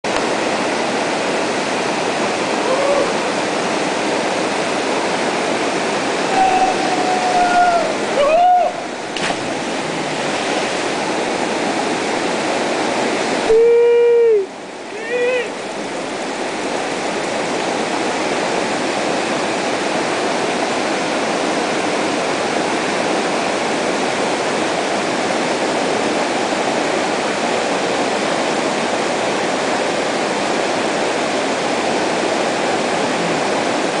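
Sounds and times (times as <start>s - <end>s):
waterfall rushing into pool: 0.1s - 34.0s.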